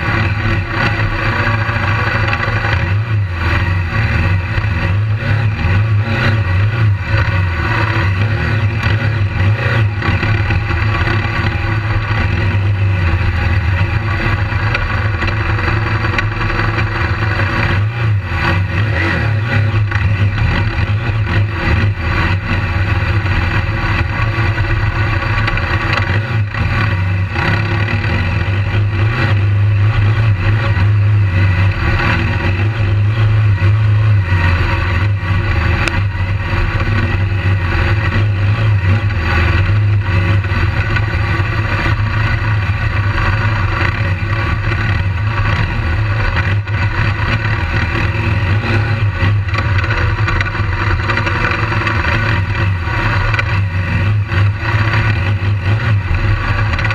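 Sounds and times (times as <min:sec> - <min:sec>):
motorcycle engine running: 0:00.0 - 0:56.9
road and wind noise: 0:00.0 - 0:56.9.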